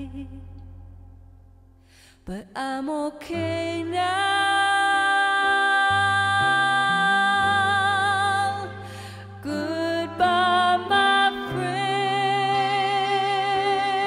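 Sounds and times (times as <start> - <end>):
slow soft background music: 0.0 - 14.0.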